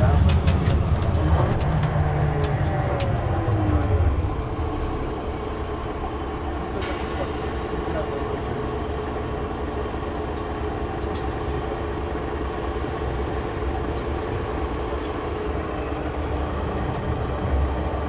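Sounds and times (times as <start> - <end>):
bus diesel engine idling: 0.0 - 18.0
engine whine and rumble: 0.0 - 18.0.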